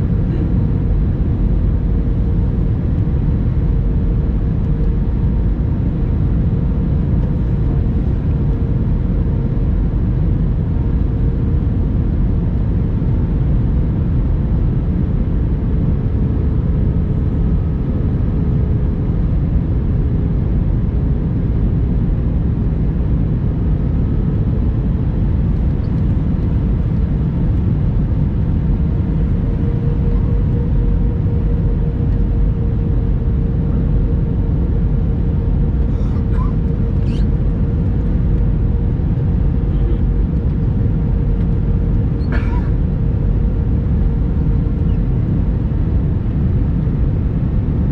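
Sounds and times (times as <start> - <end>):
airliner cabin drone: 0.0 - 47.9.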